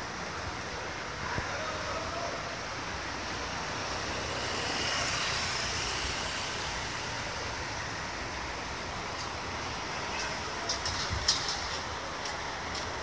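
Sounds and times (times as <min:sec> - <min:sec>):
buses running: 0:00.0 - 0:13.0.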